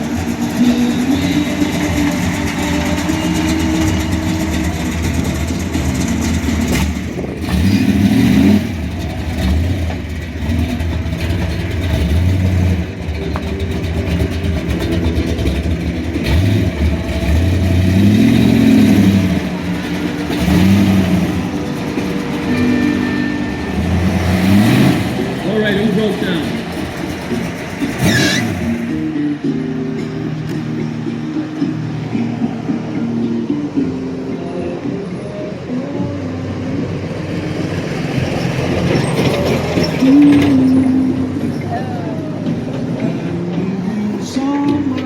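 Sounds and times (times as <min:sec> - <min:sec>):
car engines idling and revving: 0:00.0 - 0:45.0.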